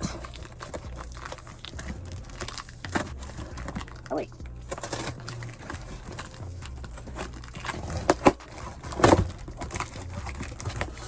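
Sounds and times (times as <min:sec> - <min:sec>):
package rustling: 0:00.0 - 0:11.0.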